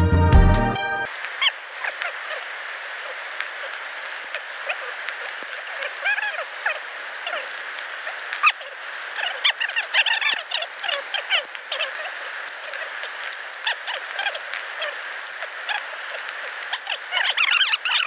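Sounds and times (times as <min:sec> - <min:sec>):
steady rushing hiss: 0:01.1 - 0:18.0
chirping animal calls: 0:01.3 - 0:18.0.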